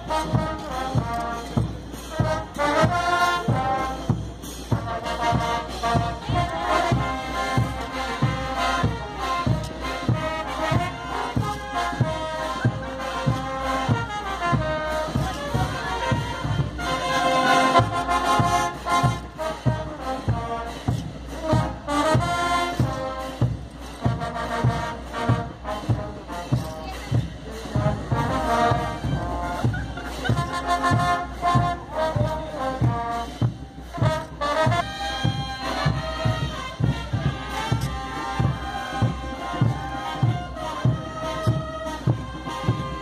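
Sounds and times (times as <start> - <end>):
brass band playing dance music: 0.0 - 43.0.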